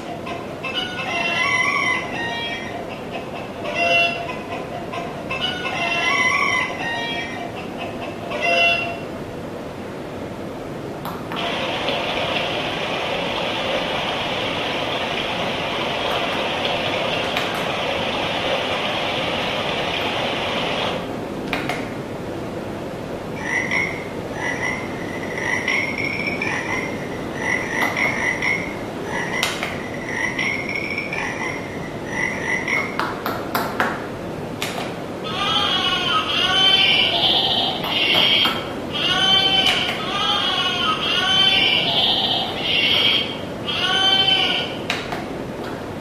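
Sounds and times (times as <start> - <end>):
steady rushing noise from speaker: 0.0 - 46.0.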